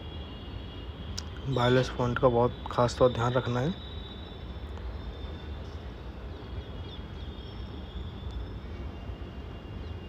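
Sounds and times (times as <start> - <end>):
faint high chirps: 1.1 - 10.0.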